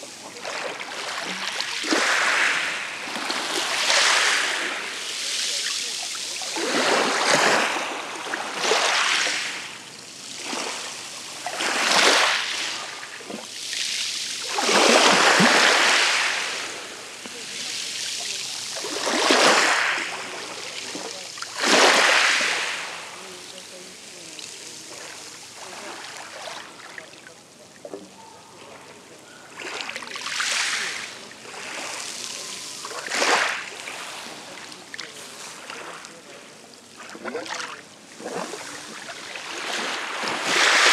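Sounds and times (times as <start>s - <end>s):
waves washing over pebble beach: 0.0s - 27.1s, 28.9s - 40.9s.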